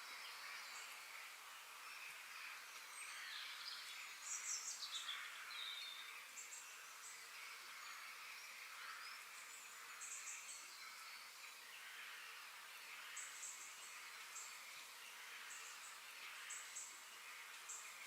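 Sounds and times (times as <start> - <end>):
steady high hiss: 0.0 - 18.0
birds chirping and singing: 0.1 - 18.0.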